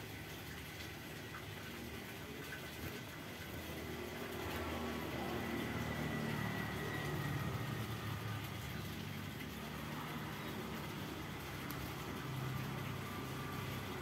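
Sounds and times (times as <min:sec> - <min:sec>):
low engine-like hum: 0:00.0 - 0:14.0.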